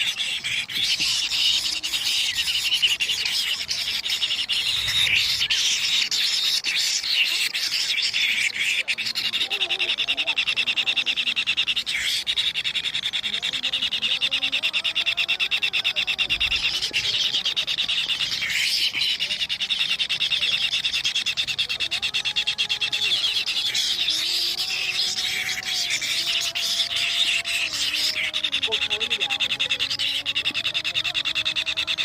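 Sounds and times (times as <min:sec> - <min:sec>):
chicks begging with rasping buzz: 0:00.0 - 0:32.0.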